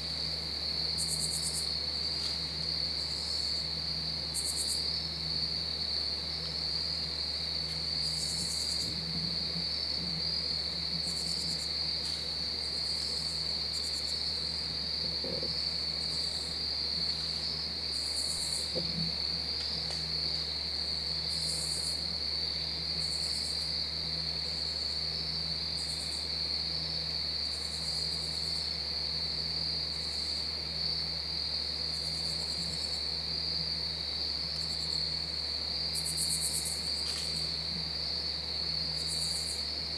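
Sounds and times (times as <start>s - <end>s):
high cricket trill: 0.0s - 39.9s
raspy insect calls: 0.0s - 39.9s.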